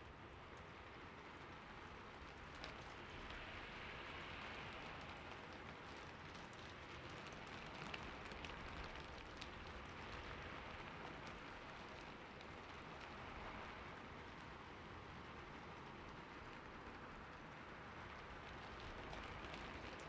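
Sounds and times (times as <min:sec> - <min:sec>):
rain on a roof: 0:00.0 - 0:20.0.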